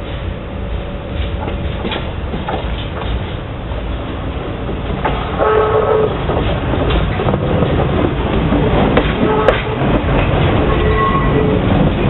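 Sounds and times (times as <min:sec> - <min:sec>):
freight wagons rumbling on rails: 0:00.0 - 0:12.0.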